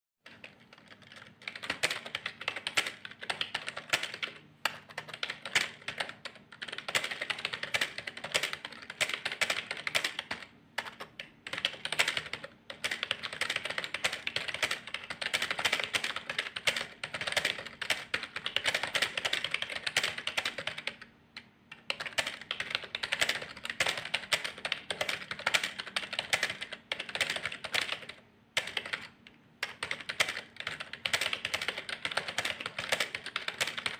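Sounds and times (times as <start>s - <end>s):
fast typing on keyboard: 0.3s - 21.1s, 21.7s - 33.9s.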